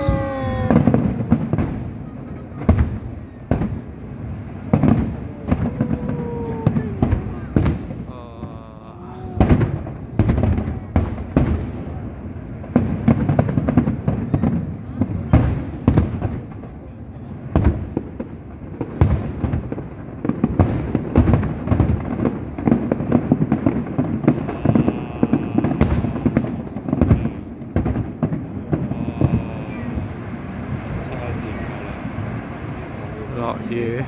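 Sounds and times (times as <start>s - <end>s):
fireworks bursting with bangs: 0.0s - 34.0s.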